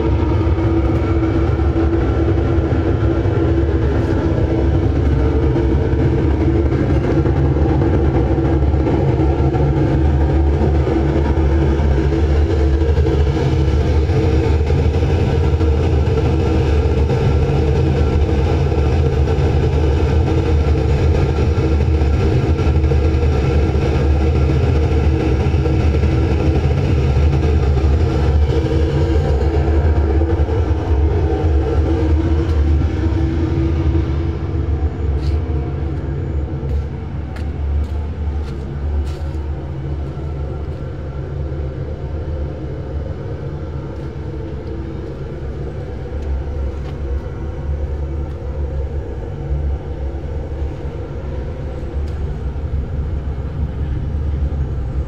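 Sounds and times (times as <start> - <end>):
gas burner rumbling: 0.0 - 55.0.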